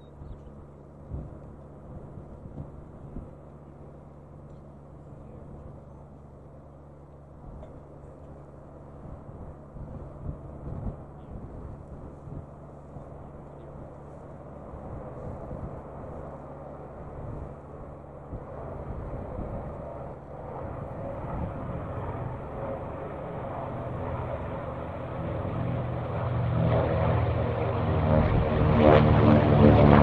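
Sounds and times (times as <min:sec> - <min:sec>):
propeller plane engines droning: 0:00.0 - 0:30.0.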